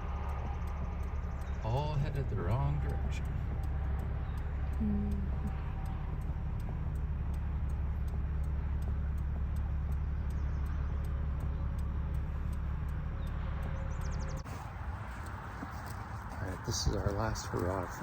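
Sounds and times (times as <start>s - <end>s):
faint even ticking: 0.0s - 18.0s
vehicle rumble inside cab: 0.0s - 18.0s.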